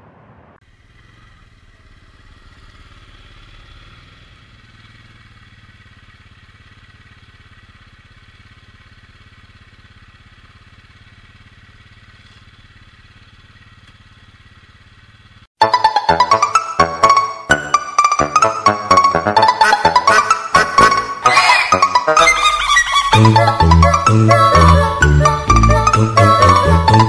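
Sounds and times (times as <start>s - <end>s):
atv engine idling: 0.6s - 15.5s, 18.0s - 27.0s.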